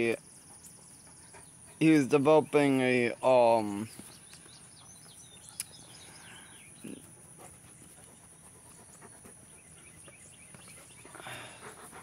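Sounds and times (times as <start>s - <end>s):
distant birds chirping: 0.0s - 12.0s.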